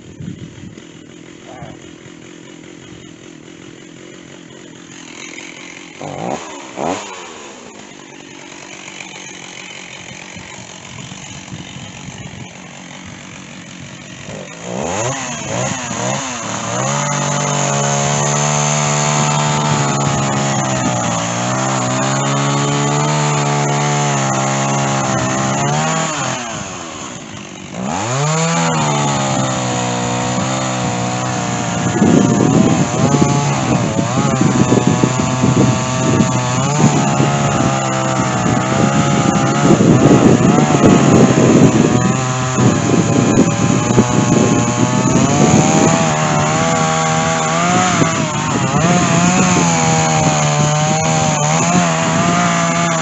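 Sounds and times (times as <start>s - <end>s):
chainsaw idling and revving: 0.0s - 53.0s.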